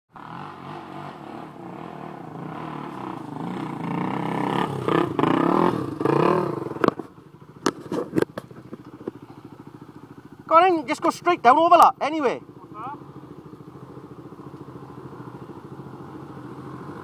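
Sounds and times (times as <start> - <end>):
pit bike engine revving: 0.1 - 17.0.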